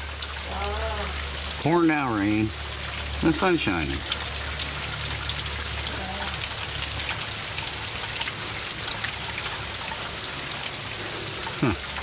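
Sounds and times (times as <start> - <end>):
rain falling on wet ground: 0.0 - 12.0.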